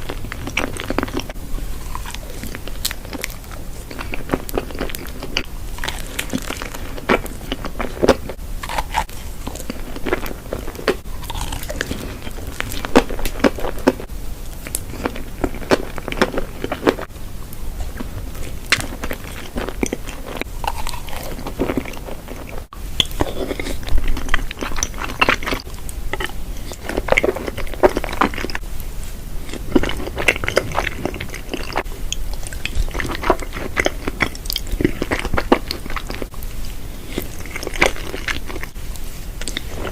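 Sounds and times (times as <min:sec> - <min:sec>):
chewing and biting food: 0:00.0 - 0:17.1, 0:17.8 - 0:28.6, 0:29.4 - 0:38.8, 0:39.4 - 0:39.9.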